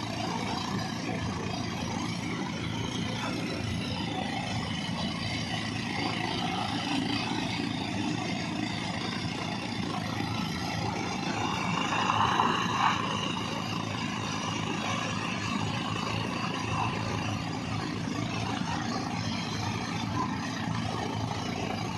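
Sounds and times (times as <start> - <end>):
heavy machinery diesel engine running: 0.0 - 21.9.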